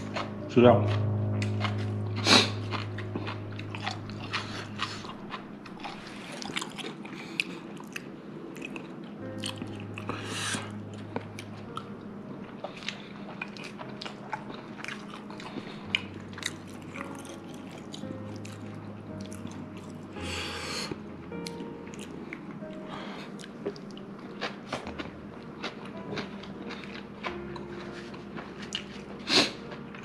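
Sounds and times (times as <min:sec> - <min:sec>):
person chewing and crunching food: 0:00.0 - 0:30.0.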